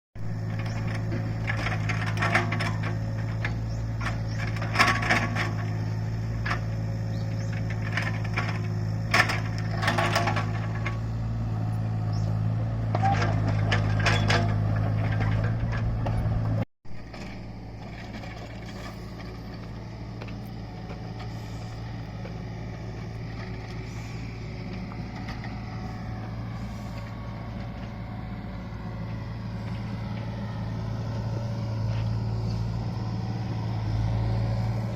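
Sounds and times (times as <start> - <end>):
diesel excavator engine running: 0.2 - 34.9.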